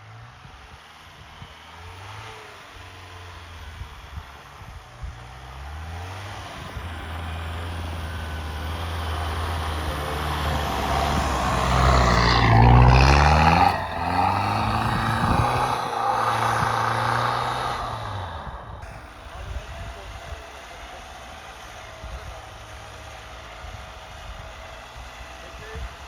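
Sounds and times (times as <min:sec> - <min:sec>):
pickup engine revving: 0:00.0 - 0:26.0.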